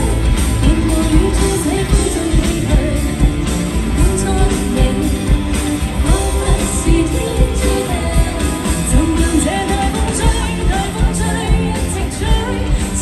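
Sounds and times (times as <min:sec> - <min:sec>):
drums with steady beat: 0:00.0 - 0:13.0
electric guitars: 0:00.0 - 0:13.0
woman singing lead vocals: 0:00.0 - 0:13.0.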